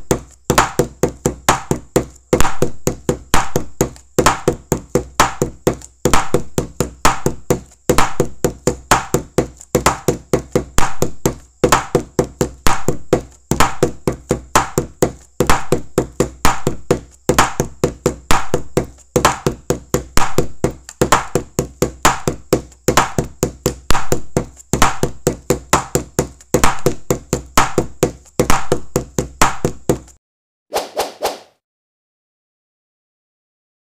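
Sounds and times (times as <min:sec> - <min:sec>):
music with percussive knocking beat: 0:00.0 - 0:30.2.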